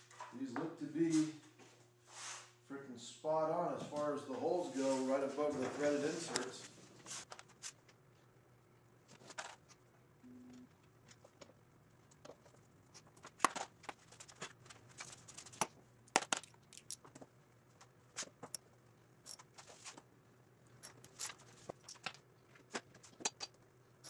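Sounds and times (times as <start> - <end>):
low steady shop hum: 0.0 - 24.0.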